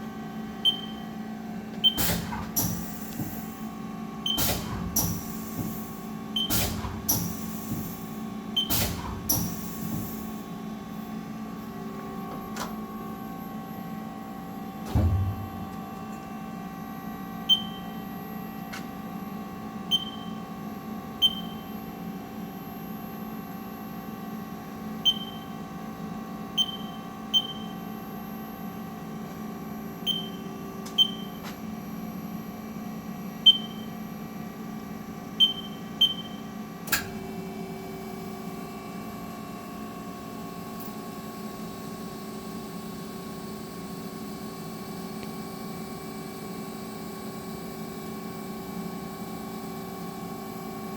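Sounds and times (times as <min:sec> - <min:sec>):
machine electrical hum: 0:00.0 - 0:50.9.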